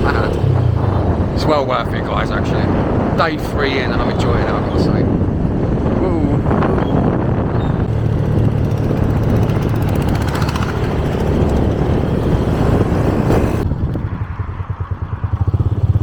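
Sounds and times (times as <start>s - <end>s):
motorbike engine: 0.0s - 16.0s
wind rushing over microphone: 0.0s - 16.0s.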